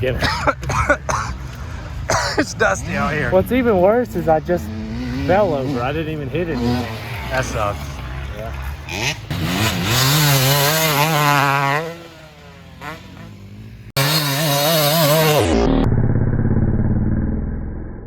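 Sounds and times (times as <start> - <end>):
dirt bike engine revving: 0.0 - 17.1.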